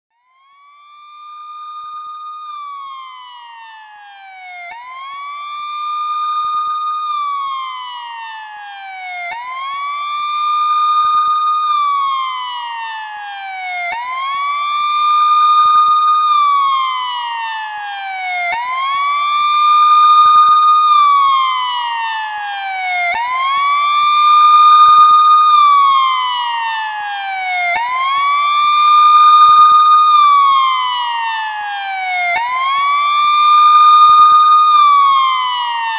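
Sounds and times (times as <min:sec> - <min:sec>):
police siren wailing: 0:00.1 - 0:35.9.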